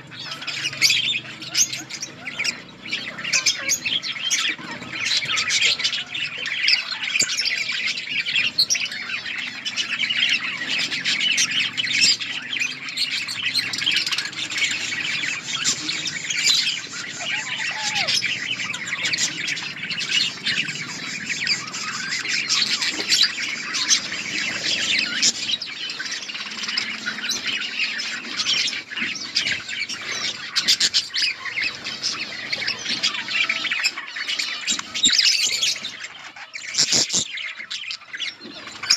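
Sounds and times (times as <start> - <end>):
flock of budgerigars chattering: 0.0 - 38.9.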